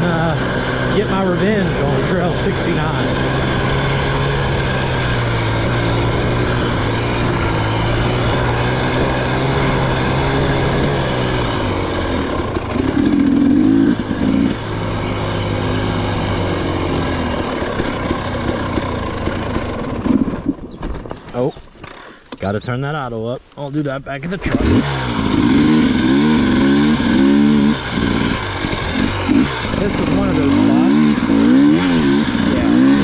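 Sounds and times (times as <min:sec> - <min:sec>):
dirt bike engine revving: 0:00.0 - 0:20.8, 0:24.3 - 0:33.0.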